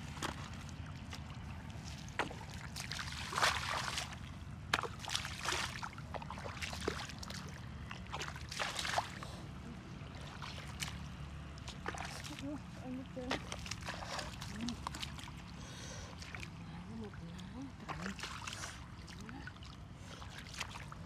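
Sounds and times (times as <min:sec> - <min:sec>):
bare feet splashing in water: 0:00.0 - 0:21.0
low background rumble: 0:00.0 - 0:21.0.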